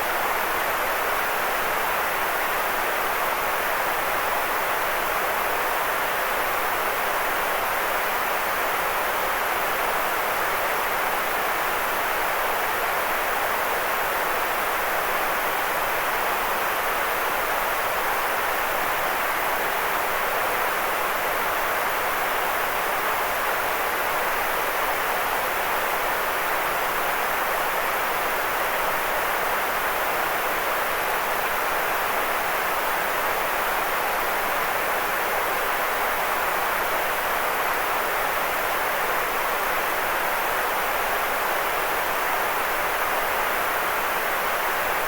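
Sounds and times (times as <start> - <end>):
steady white noise hiss: 0.0 - 45.0.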